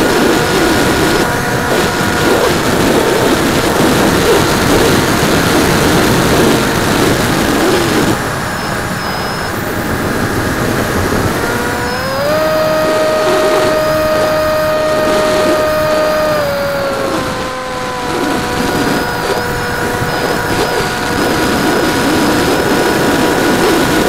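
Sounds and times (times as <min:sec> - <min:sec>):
electric motor and propeller whine: 0:00.0 - 0:24.0
wind rushing over microphone: 0:00.0 - 0:24.0.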